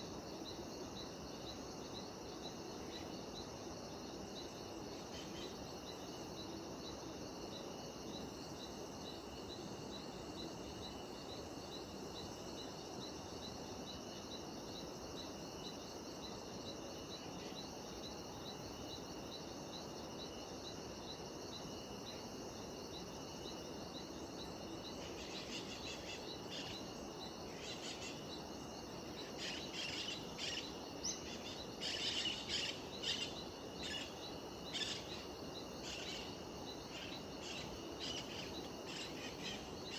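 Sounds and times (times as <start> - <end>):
cicadas and insects chorus: 0.0 - 39.9.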